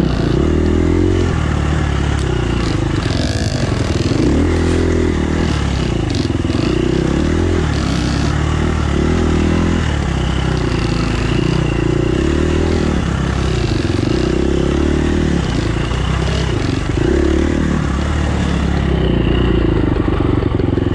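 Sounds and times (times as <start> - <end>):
bike rattling: 0.0 - 20.9
dirt bike engine revving: 0.0 - 20.9.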